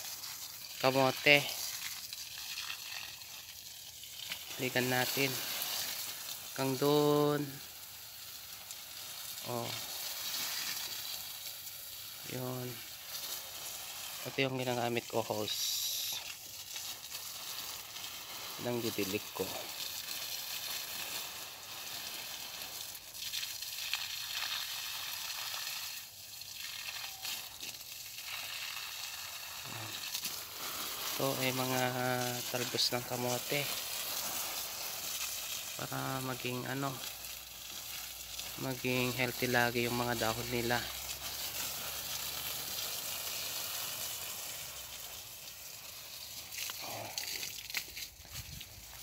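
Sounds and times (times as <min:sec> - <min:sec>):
hose water spraying on leaves: 0:00.0 - 0:49.0.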